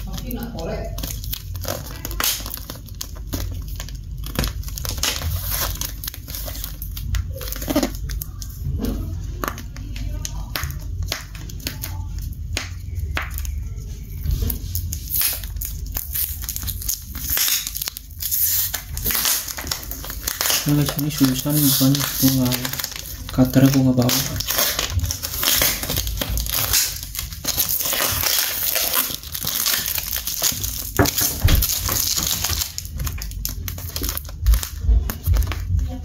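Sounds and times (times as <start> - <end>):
packing tape and cardboard tearing: 0.0 - 36.0.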